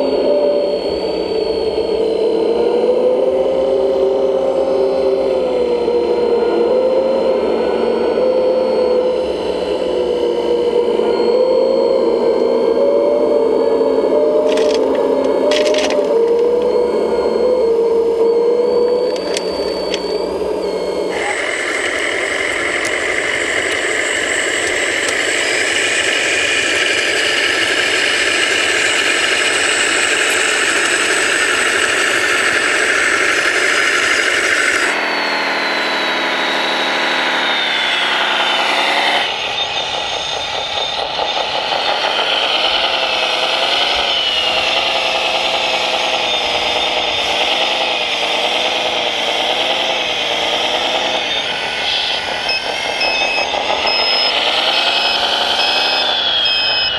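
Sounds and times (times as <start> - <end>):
electric motors and pumps whining: 0.0 - 56.9
engine-like droning: 0.0 - 56.9.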